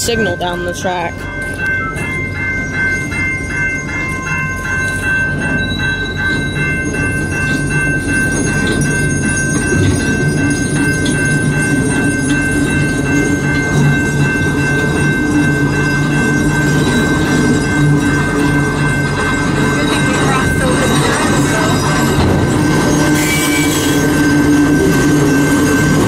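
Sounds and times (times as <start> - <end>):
level-crossing warning bell: 0.0 - 26.0.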